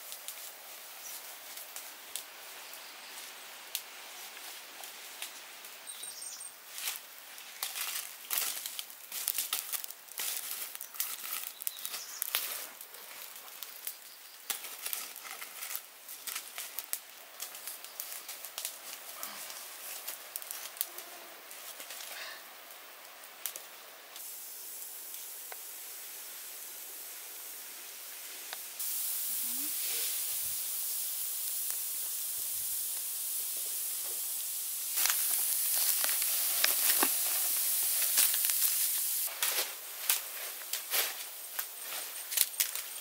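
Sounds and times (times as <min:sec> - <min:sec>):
charcoal crackles and pops: 0:00.0 - 0:06.0, 0:06.6 - 0:26.6, 0:27.4 - 0:43.0
meat hissing and steaming: 0:05.4 - 0:43.0.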